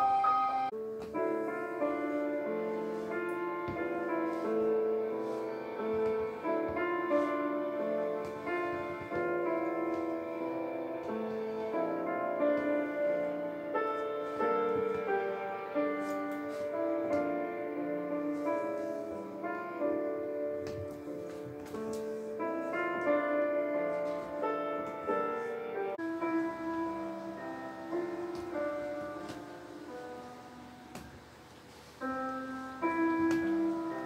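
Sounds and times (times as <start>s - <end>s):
piano background music: 0.0s - 34.0s.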